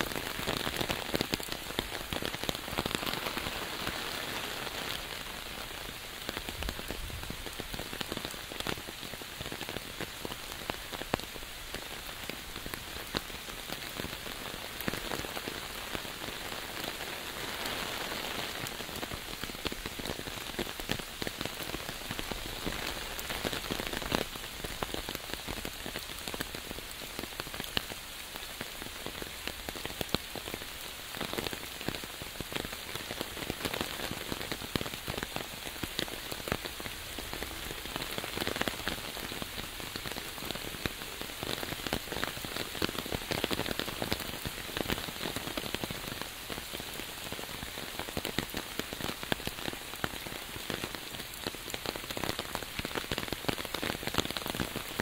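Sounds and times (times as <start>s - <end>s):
rain on an umbrella: 0.0s - 55.0s
rain on leaves and path: 0.0s - 55.0s.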